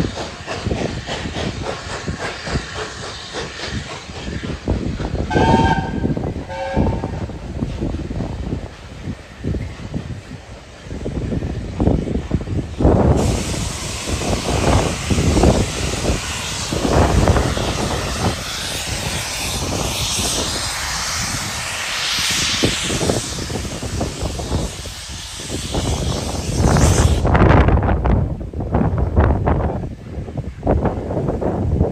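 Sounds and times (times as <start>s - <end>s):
steam locomotive hissing steam: 0.0s - 31.9s
wind buffeting microphone: 0.0s - 31.9s.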